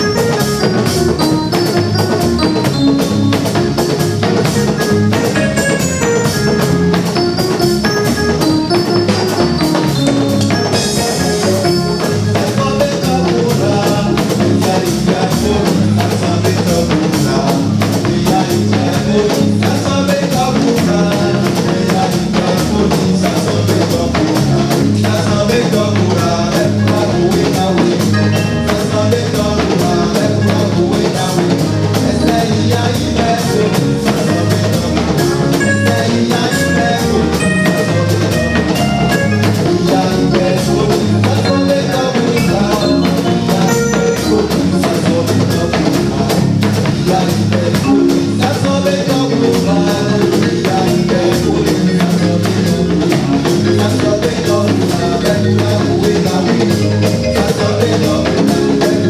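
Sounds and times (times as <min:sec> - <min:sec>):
band music: 0:00.0 - 0:59.0
drum kit fast beat: 0:00.0 - 0:59.0.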